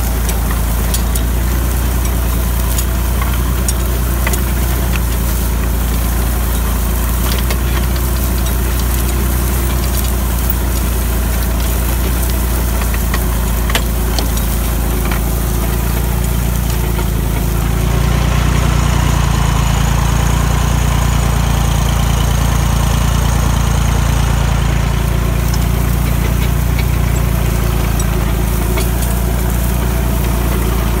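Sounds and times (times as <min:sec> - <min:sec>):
tractor engine running under load: 0:00.0 - 0:31.0.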